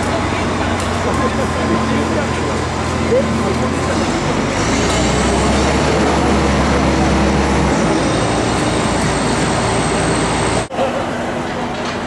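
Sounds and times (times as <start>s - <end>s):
heavy vehicle engine droning: 0.0s - 12.0s
street noise: 0.0s - 12.0s.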